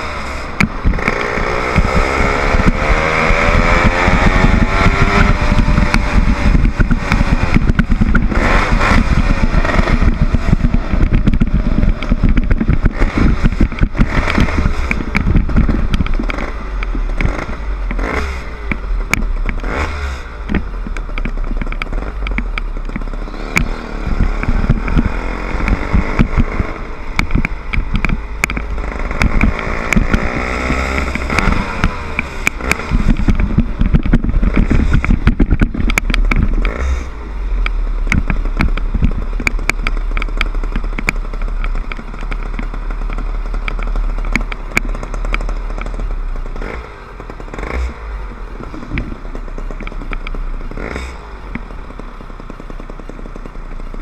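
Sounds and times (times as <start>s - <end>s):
bike rattling and knocking: 0.0s - 54.0s
small motorbike engine running: 0.0s - 54.0s.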